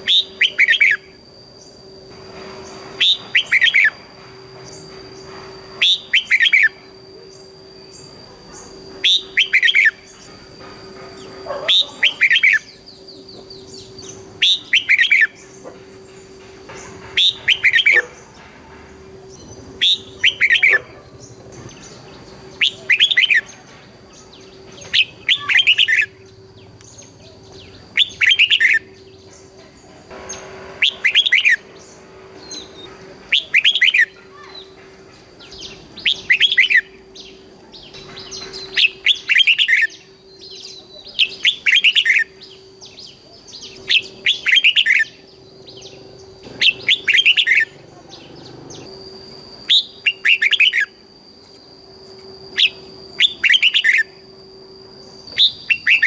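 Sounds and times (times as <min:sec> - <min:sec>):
bird singing whistled phrases: 0:00.0 - 0:01.8, 0:02.9 - 0:04.0, 0:04.6 - 0:10.3, 0:11.7 - 0:15.6, 0:17.2 - 0:18.2, 0:19.3 - 0:23.6, 0:24.2 - 0:29.5, 0:30.8 - 0:34.8, 0:35.4 - 0:51.5, 0:52.4 - 0:54.3, 0:55.0 - 0:56.0.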